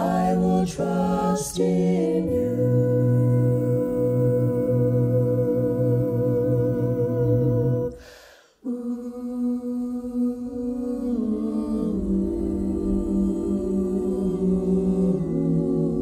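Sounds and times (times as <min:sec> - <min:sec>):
a cappella ensemble singing: 0:00.0 - 0:16.0.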